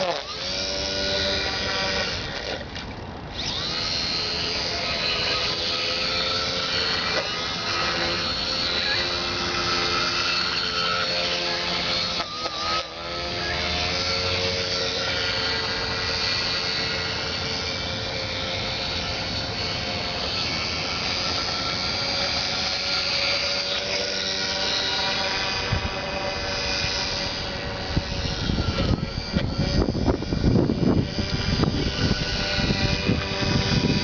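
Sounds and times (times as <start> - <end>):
small motor and propeller whine: 0.0 - 34.0.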